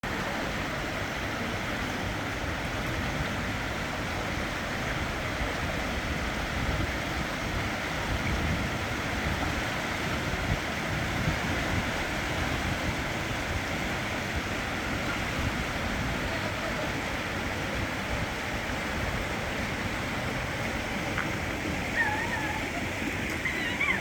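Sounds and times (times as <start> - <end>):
river water rushing: 0.0 - 24.0
wind rumbling on microphone: 0.0 - 24.0.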